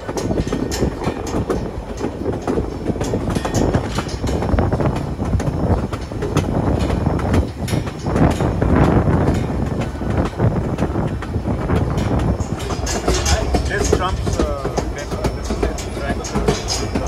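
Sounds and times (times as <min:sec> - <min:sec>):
train cars rumbling: 0:00.0 - 0:17.0
wheels clacking over rails: 0:00.0 - 0:17.0.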